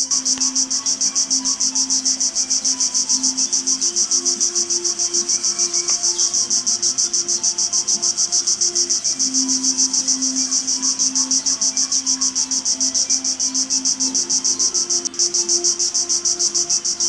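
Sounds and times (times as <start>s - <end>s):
insects buzzing in pulses: 0.0s - 17.0s.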